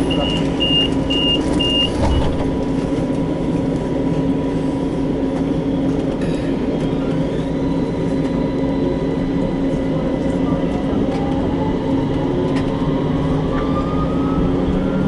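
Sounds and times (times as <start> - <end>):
tram rumble and hum: 0.0 - 15.0.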